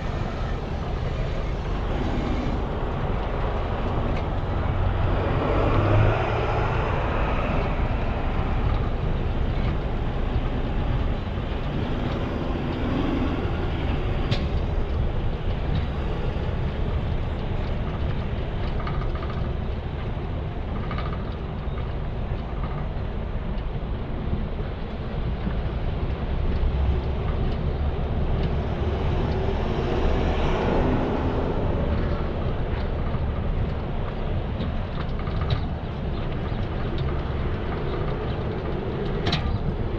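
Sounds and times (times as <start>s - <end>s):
trailer wheels rumbling on road: 0.0s - 39.9s.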